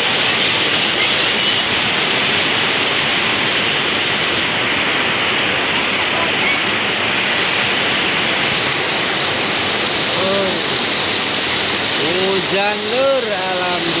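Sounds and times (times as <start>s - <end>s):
heavy rain on tile roofs: 0.0s - 14.0s
water running off roof: 0.0s - 14.0s.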